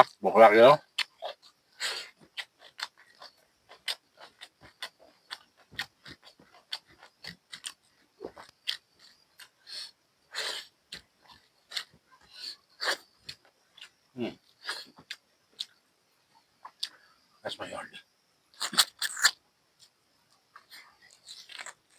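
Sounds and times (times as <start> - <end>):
person chewing and lip-smacking: 0.9 - 15.8, 16.6 - 17.0, 18.6 - 21.9.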